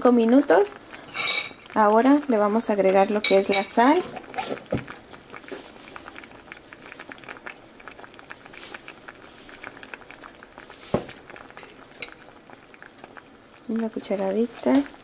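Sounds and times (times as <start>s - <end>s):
pot of beans bubbling: 0.0s - 15.0s.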